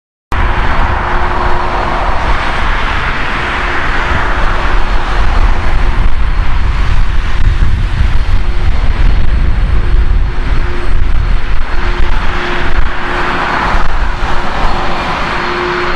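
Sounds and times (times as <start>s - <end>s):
jet engines at takeoff thrust: 0.3s - 15.9s.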